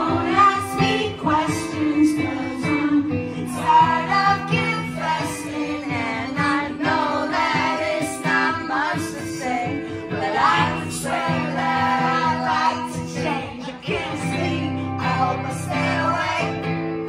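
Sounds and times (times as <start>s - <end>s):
woman singing into microphone: 0.0s - 16.8s
strummed acoustic guitar: 0.0s - 17.0s.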